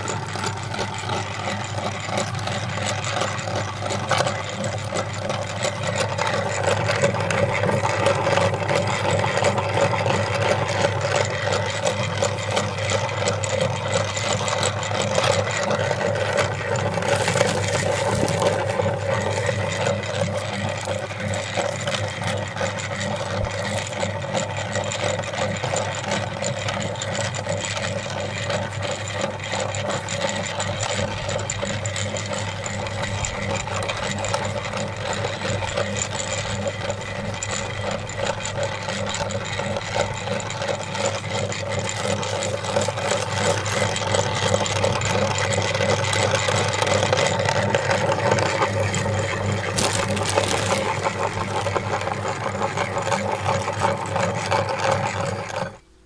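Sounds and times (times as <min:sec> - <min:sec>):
meat grinder motor humming: 0:00.0 - 0:56.0.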